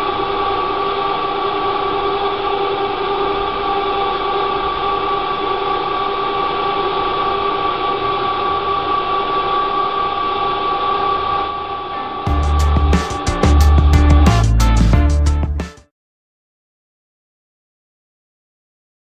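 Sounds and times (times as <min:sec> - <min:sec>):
paddle mixer motor humming: 0:00.0 - 0:15.3.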